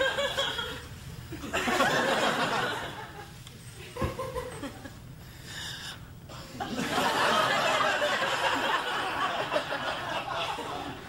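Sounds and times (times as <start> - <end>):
audience laughing: 0.0 - 5.0, 6.6 - 11.0.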